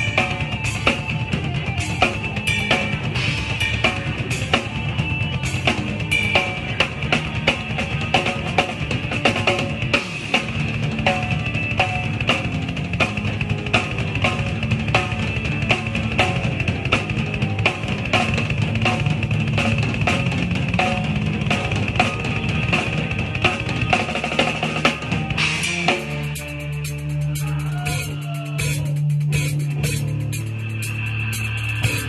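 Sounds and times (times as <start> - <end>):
bass and guitar band: 0.0 - 32.0
rock drum kit playing: 0.0 - 32.0.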